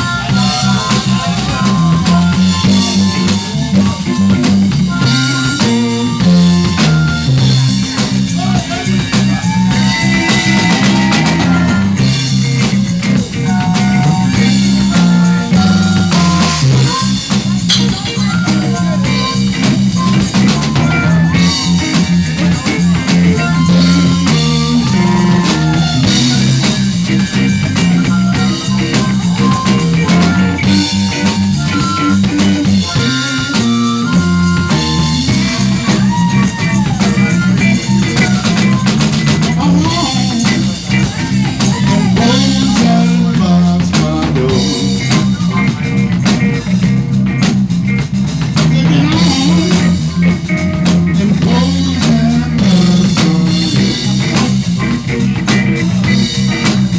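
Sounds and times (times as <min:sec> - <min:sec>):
bending guitar notes: 0:00.0 - 0:56.9
live band playing: 0:00.0 - 0:56.9.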